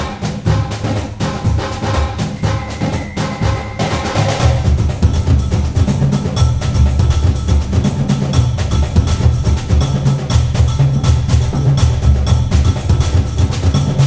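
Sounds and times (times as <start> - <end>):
music with driving beat and bass: 0.0 - 14.0.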